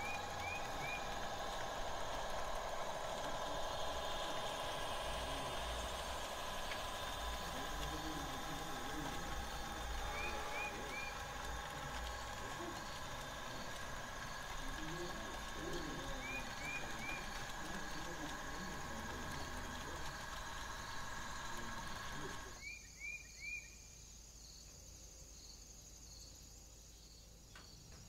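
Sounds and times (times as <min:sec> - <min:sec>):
diesel engine hum: 0:00.0 - 0:22.6
light regular ticking: 0:00.0 - 0:22.6
model train rolling: 0:00.0 - 0:22.8.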